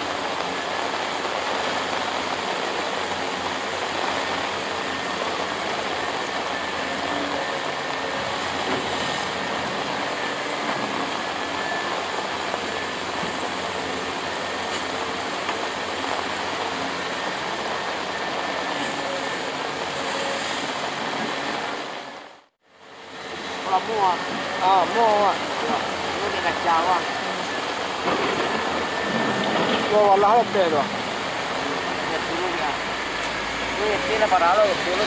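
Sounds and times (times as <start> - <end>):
constant broad hiss: 0.0 - 35.0.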